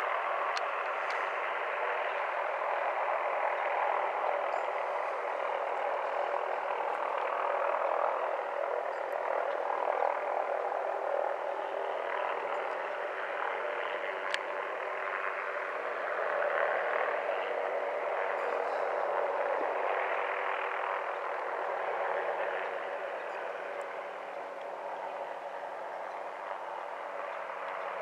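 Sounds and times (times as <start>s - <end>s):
distant helicopter drone: 0.0s - 28.0s.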